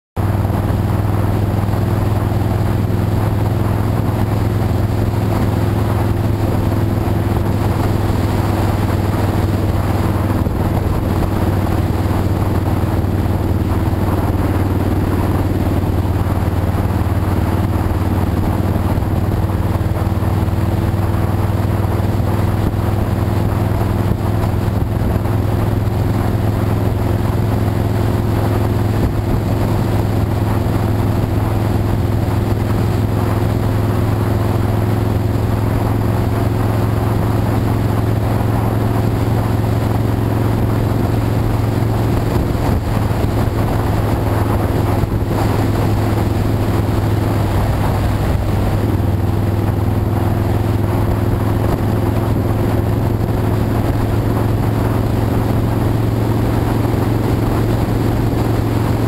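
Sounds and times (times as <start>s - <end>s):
wind and road noise: 0.0s - 59.0s
motorcycle engine cruising: 0.2s - 59.0s.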